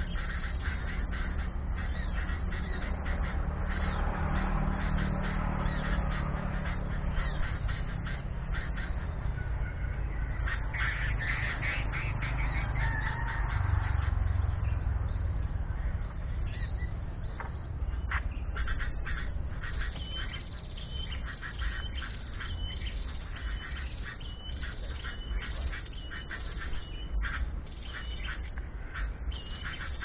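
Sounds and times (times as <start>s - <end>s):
bird squawking: 0.0s - 14.8s, 17.9s - 30.0s.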